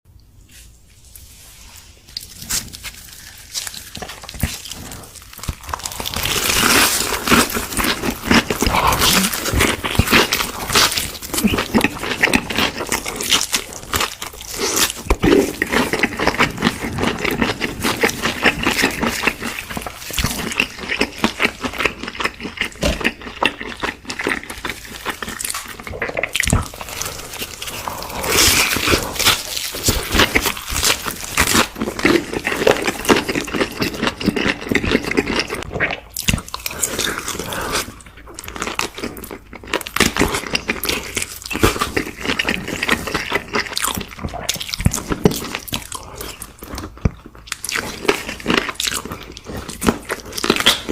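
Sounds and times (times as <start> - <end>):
crunchy chewing: 2.1 - 50.9.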